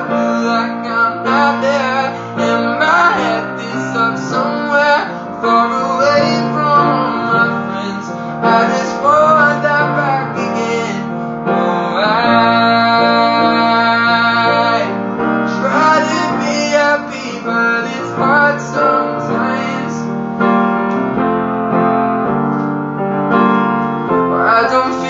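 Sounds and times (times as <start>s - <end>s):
man singing: 0.0s - 20.2s, 24.2s - 25.0s
piano chords: 0.0s - 25.0s.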